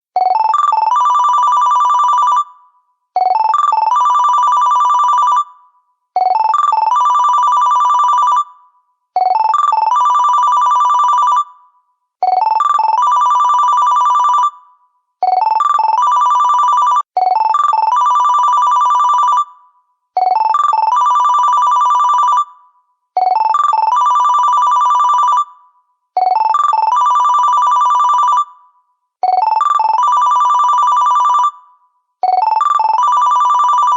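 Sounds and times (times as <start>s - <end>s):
phone ringtone two-tone trill: 0.2s - 2.6s, 3.2s - 5.6s, 6.2s - 8.6s, 9.2s - 11.6s, 12.2s - 25.6s, 26.2s - 33.9s.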